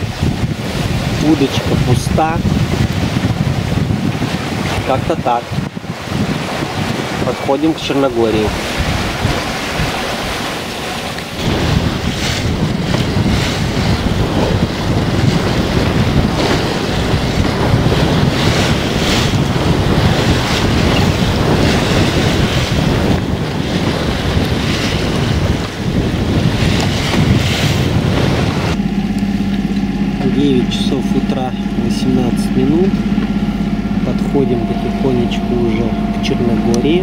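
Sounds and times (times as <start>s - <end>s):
boat engine humming: 0.0s - 37.0s
waves rushing past hull: 0.0s - 37.0s
wind buffeting microphone: 0.0s - 37.0s.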